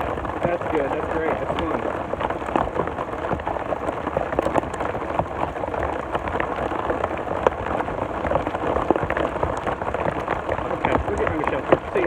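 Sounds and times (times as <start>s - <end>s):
hard rain patter: 0.0s - 12.0s.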